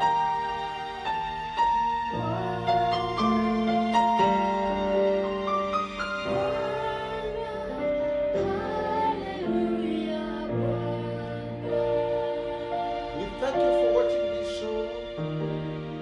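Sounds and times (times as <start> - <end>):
voices singing: 2.1 - 16.0.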